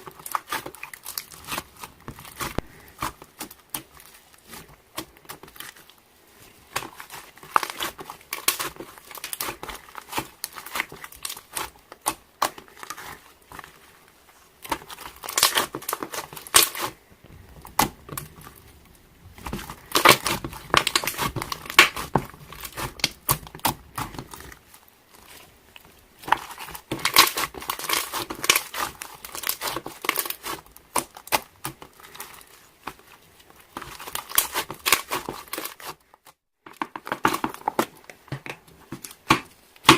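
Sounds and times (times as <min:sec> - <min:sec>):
slime crackling and popping: 0:00.0 - 0:06.0, 0:06.6 - 0:13.9, 0:14.6 - 0:36.0.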